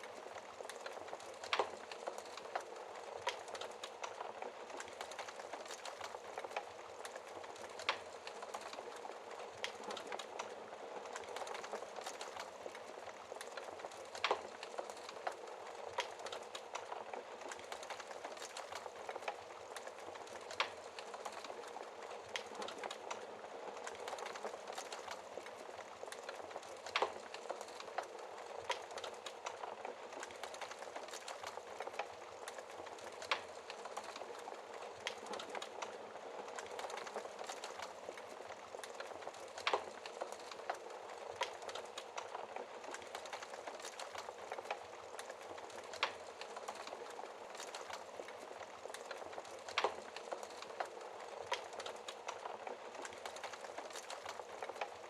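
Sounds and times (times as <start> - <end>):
wood fire crackling in fireplace: 0.0 - 55.0.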